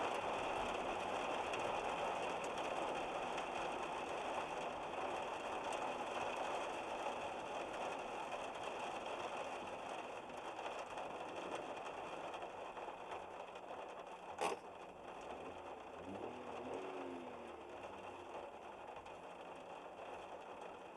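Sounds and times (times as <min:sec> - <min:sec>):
heavy rain hiss: 0:00.0 - 0:20.9.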